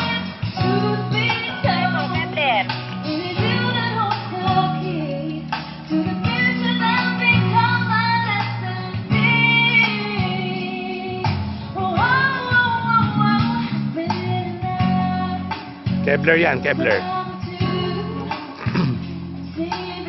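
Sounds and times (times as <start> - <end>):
pop song with female vocal: 0.0 - 20.0.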